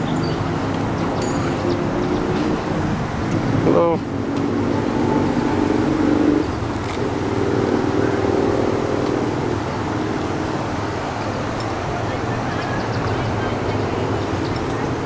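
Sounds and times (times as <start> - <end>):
river rushing over rocks: 0.0 - 15.0
vehicle engine humming: 0.0 - 15.0.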